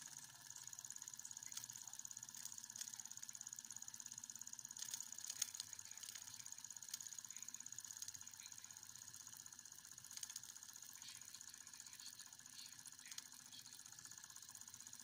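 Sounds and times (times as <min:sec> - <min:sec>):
miniature steam engine chuffing: 0:00.0 - 0:15.0.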